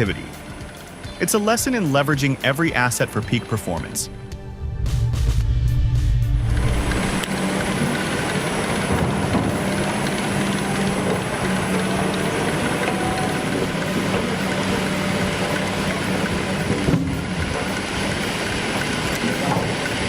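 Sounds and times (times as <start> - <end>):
heavy machine engine running: 0.0 - 20.0
low wavering hum: 3.5 - 20.0.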